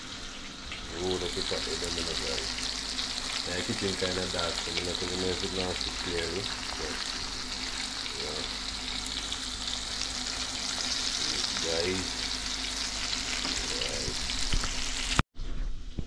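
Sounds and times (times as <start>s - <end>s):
fish frying in hot oil: 0.0s - 15.2s.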